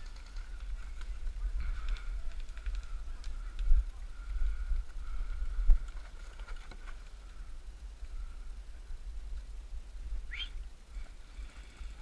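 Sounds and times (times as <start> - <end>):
faint high hum: 0.0 - 12.0
wind rumble on microphone: 0.0 - 12.0.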